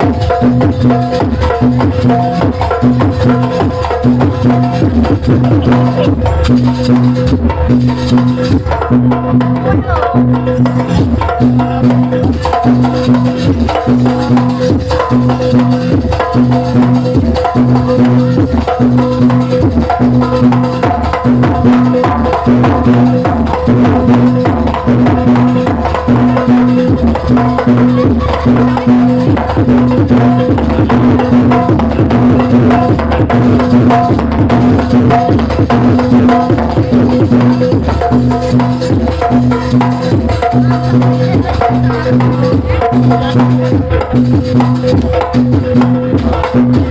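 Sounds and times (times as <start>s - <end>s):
hand drum strokes: 0.0s - 46.9s.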